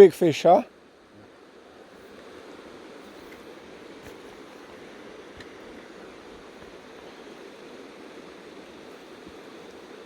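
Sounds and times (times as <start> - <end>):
mountain river flowing: 0.0 - 10.0.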